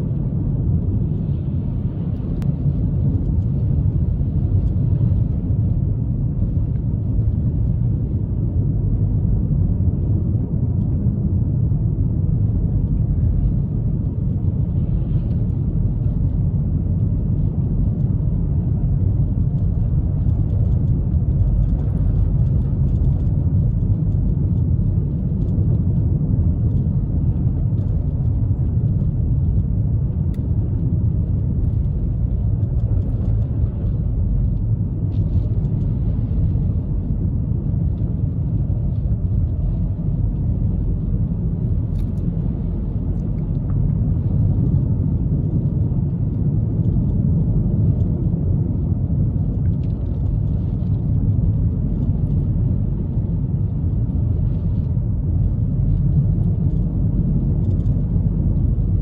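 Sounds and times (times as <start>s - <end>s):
road and tyre noise in car: 0.0s - 59.0s.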